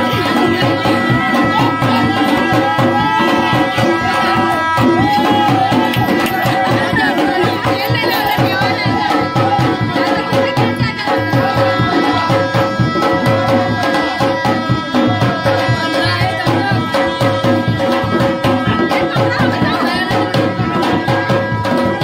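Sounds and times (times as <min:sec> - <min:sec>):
hand drum beating: 0:00.0 - 0:22.0.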